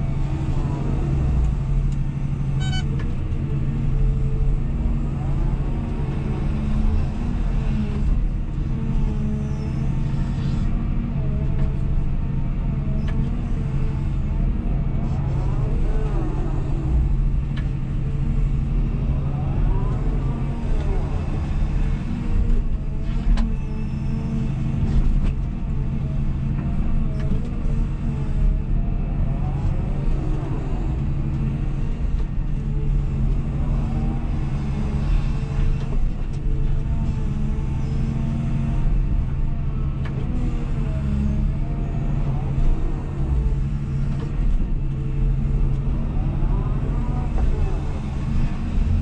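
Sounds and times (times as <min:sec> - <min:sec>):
diesel engine running under load: 0:00.0 - 0:49.0.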